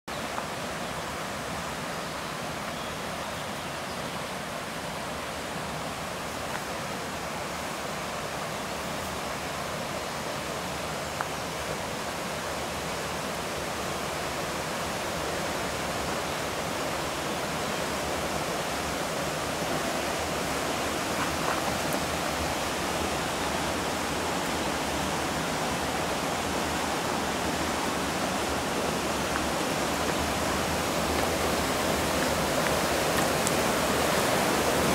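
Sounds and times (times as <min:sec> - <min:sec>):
falling churning water: 0:00.1 - 0:34.9.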